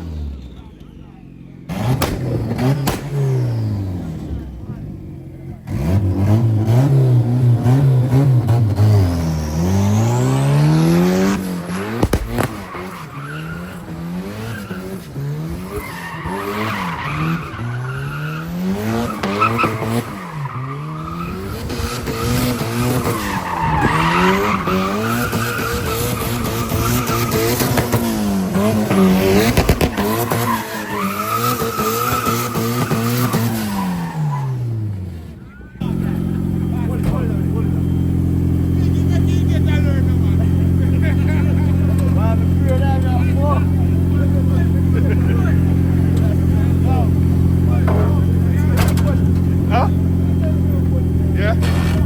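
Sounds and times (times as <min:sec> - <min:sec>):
car engine revving: 0:00.0 - 0:52.0
tyres squealing: 0:00.8 - 0:52.0.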